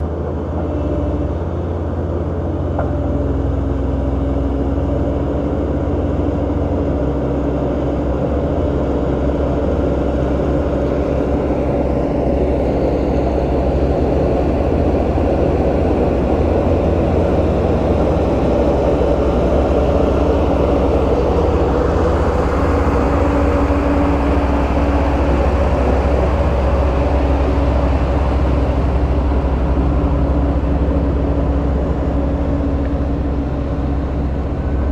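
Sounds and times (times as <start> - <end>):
heavy diesel engine rumbling: 0.0 - 34.9.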